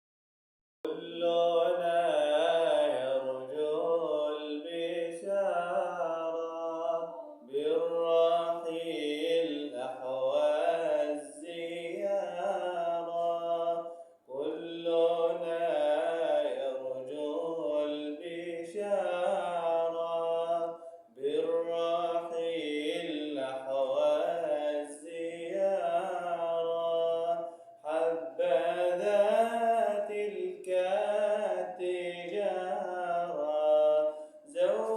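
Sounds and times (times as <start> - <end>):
man singing unaccompanied: 0.8 - 34.9.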